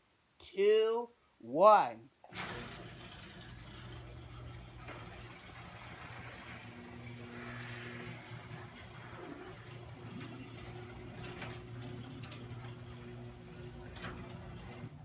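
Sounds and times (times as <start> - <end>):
garage door opener motor hum: 2.3 - 15.0.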